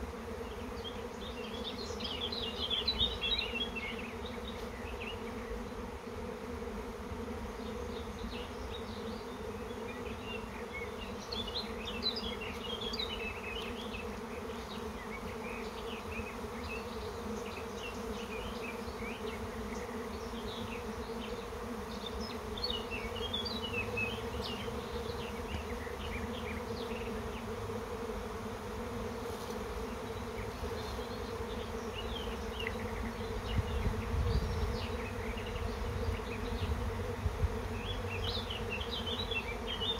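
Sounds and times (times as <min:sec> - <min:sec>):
bee swarm humming: 0:00.0 - 0:39.9.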